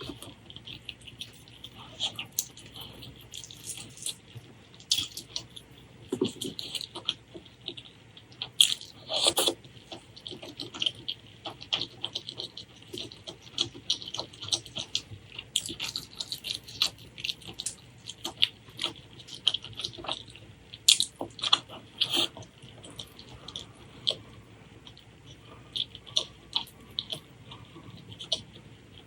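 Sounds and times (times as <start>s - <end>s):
chewing with wet mouth smacks: 0.0s - 29.0s.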